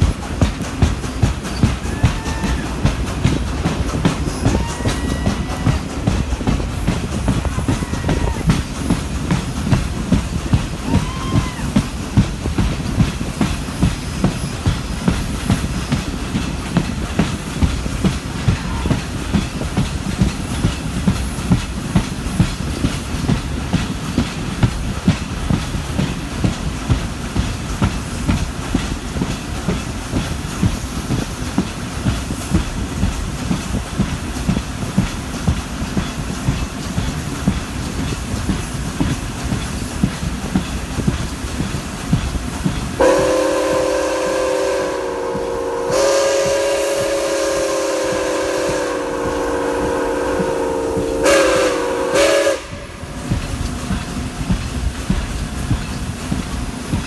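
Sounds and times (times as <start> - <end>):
train running gear rumble: 0.0 - 57.0
wheels clickety-clack over rail joints: 0.0 - 57.0.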